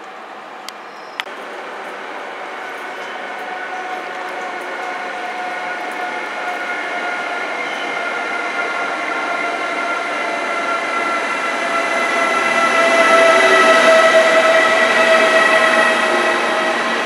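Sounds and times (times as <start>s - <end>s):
electric locomotive whine: 0.0s - 17.0s
train rushing noise: 0.0s - 17.0s.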